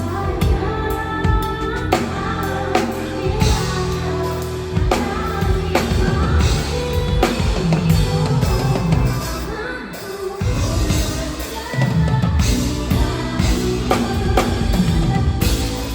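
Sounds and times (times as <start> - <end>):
drum kit: 0.0 - 15.9
person singing: 0.0 - 15.9
pop band playing live: 0.0 - 15.9.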